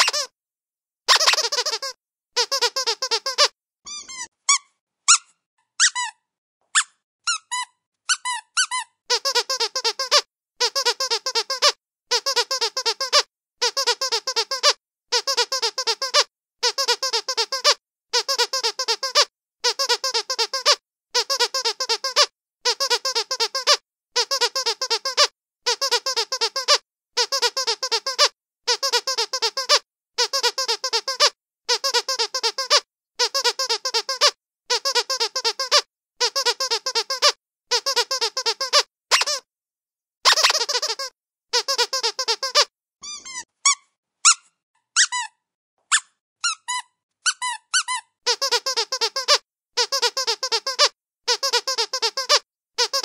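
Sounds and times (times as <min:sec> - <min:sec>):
squeaky dog toy squeaking: 0:00.0 - 0:00.3, 0:01.1 - 0:39.5, 0:40.2 - 0:53.0.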